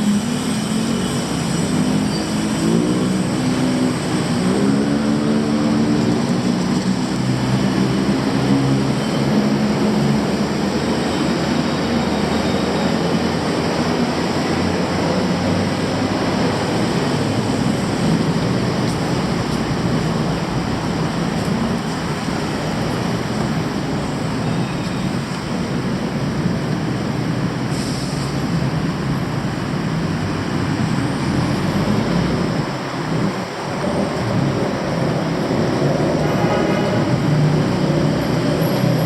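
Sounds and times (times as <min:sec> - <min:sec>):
loud rumble of vehicles: 0:00.0 - 0:39.0.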